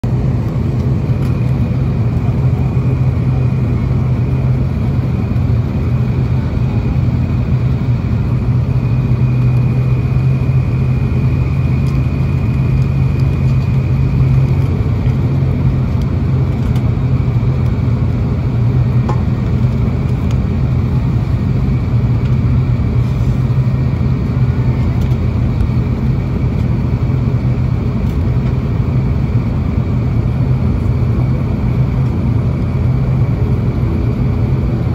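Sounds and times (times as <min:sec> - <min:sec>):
turboprop engines droning: 0:00.0 - 0:34.9
faint high whine: 0:00.1 - 0:34.9.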